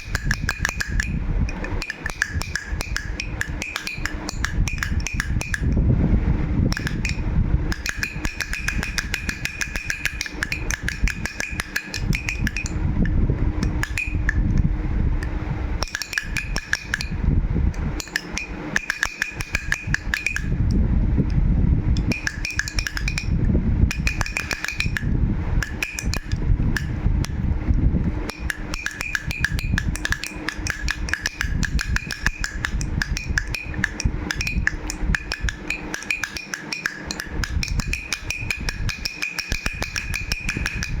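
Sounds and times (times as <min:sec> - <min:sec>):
toy rattle shaken: 0:00.0 - 0:05.7, 0:06.8 - 0:12.8, 0:15.8 - 0:17.2, 0:18.0 - 0:20.6, 0:22.0 - 0:27.0, 0:28.3 - 0:41.0.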